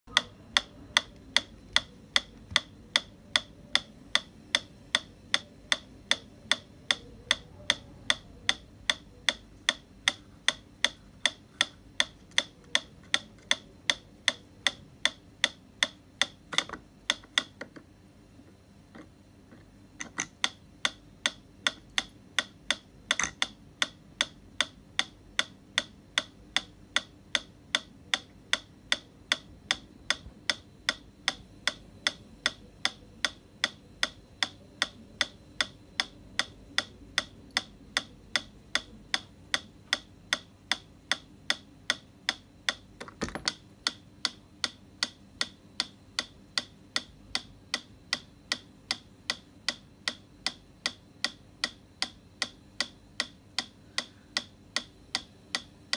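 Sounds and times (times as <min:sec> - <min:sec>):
metronome ticking: 0:00.0 - 0:18.8, 0:19.8 - 0:55.9.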